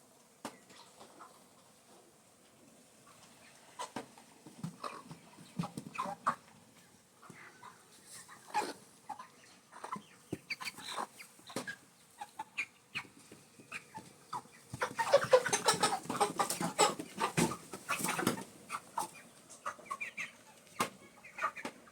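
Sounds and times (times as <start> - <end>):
chickens clucking: 0.2 - 21.9.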